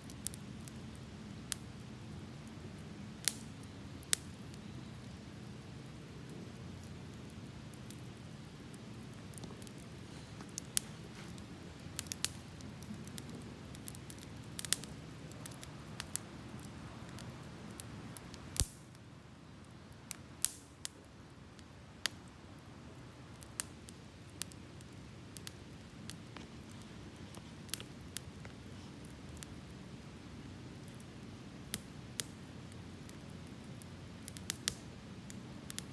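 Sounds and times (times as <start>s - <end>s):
campfire crackling and popping: 0.0s - 35.9s.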